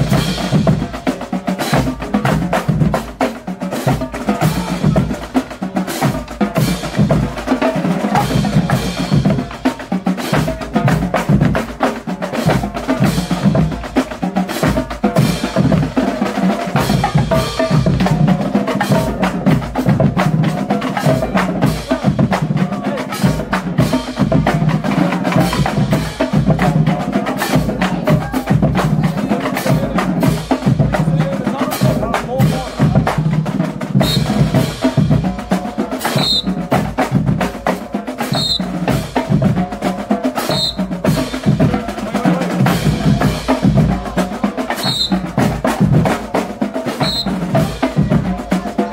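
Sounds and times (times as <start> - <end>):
pitched bass drums: 0.0 - 48.9
snare and tenor drums rattling: 0.0 - 48.9.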